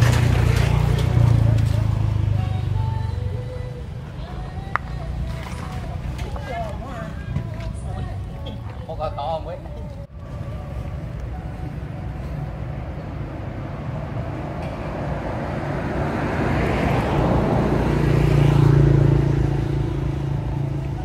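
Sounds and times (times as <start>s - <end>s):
vehicle engine passing: 0.0s - 9.0s, 10.2s - 21.0s.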